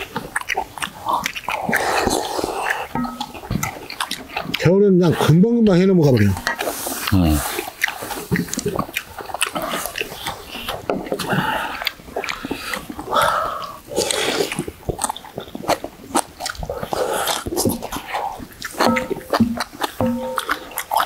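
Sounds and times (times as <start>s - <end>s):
mouth chewing: 0.0s - 21.0s
people slurping soup: 0.0s - 21.0s.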